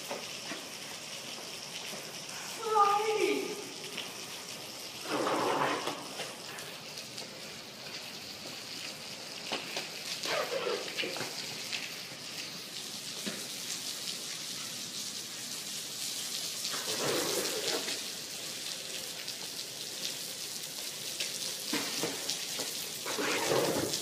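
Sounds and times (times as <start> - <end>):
steady rain patter: 0.0 - 24.0.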